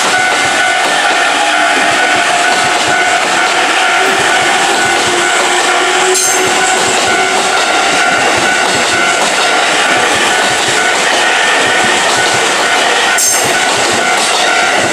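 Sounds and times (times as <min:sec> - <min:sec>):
crossing warning bell ringing: 0:00.0 - 0:14.9
train wheels rumbling: 0:00.0 - 0:14.9.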